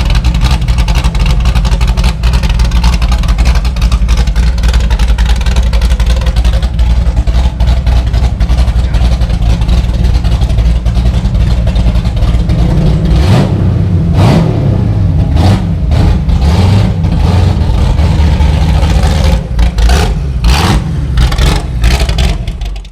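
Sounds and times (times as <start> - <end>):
car engine rumbling and revving: 0.0 - 22.9.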